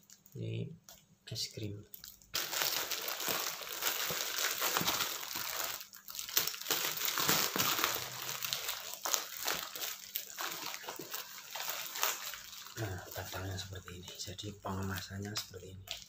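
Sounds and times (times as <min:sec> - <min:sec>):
paper and plastic crinkling: 0:01.9 - 0:16.0.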